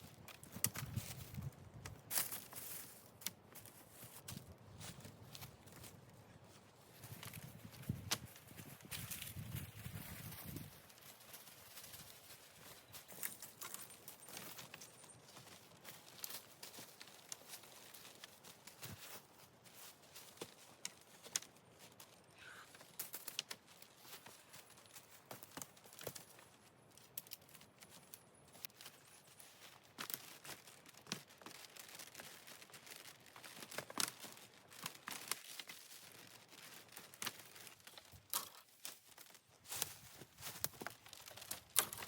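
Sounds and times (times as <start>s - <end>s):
dry wood crackling: 0.0s - 42.0s.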